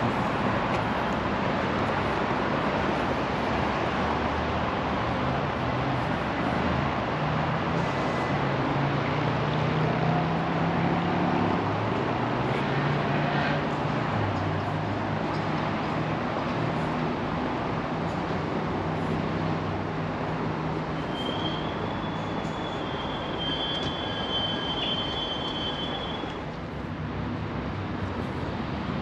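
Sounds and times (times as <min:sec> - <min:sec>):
passing cars: 0:00.0 - 0:29.0.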